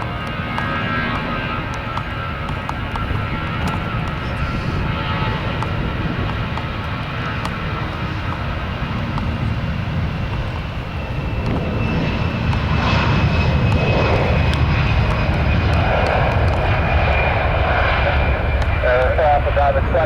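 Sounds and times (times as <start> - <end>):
high engine whine: 0.0 - 20.0
jet engines rumbling: 0.0 - 20.0.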